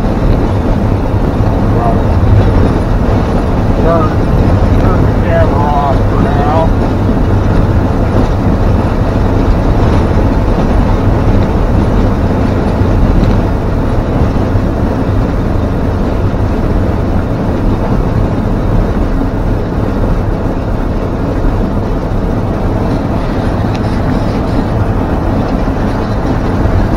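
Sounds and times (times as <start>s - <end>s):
truck engine and road noise: 0.0s - 26.9s.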